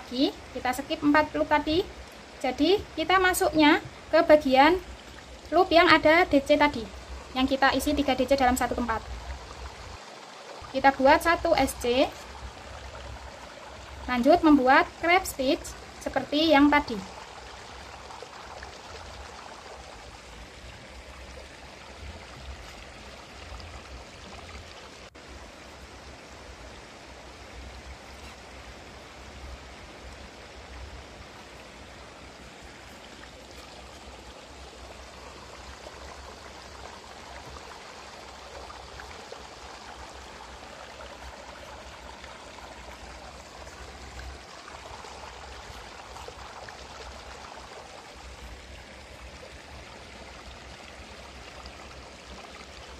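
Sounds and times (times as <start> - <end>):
steady background hiss: 0.0 - 52.9.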